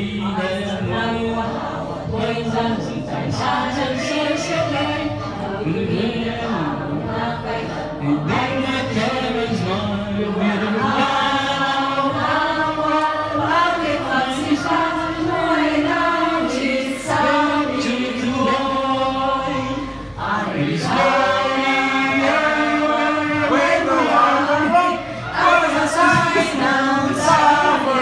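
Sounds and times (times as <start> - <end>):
group of people singing: 0.0 - 28.0.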